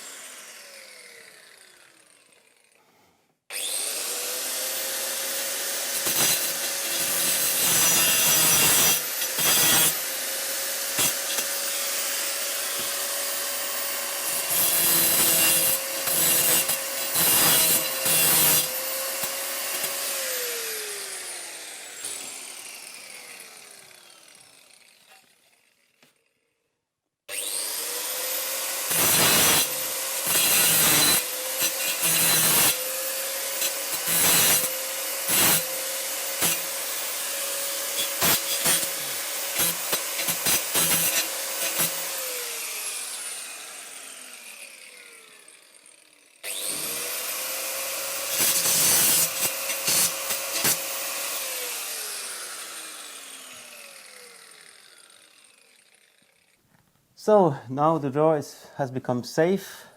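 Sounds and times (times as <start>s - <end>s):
angle grinder grinding metal: 0.0s - 2.8s, 3.5s - 26.2s, 27.3s - 56.6s.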